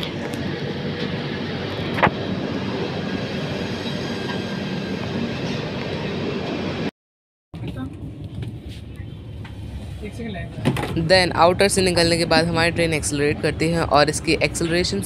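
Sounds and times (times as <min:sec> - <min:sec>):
train wheels rumbling on track: 0:00.0 - 0:06.9, 0:07.6 - 0:15.0.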